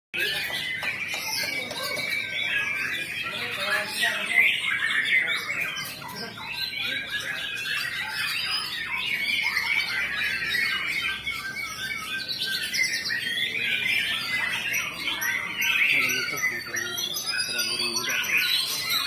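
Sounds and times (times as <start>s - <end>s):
songbird singing rapid song: 0.2s - 19.0s.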